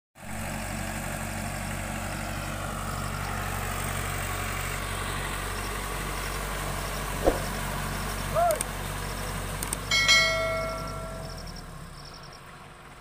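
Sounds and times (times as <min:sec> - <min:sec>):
tractor diesel engine running: 0:00.2 - 0:13.0.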